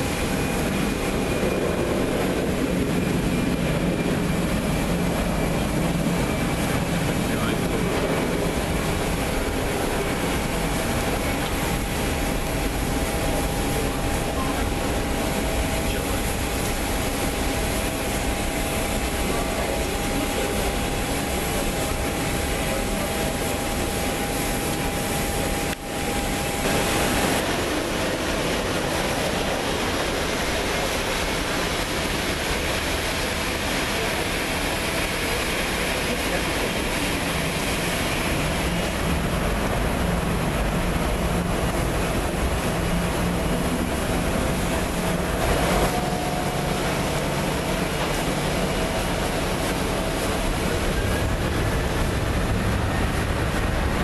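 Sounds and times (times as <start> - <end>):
jet engines rushing: 0.0 - 54.0
thin steady whine: 0.0 - 54.0.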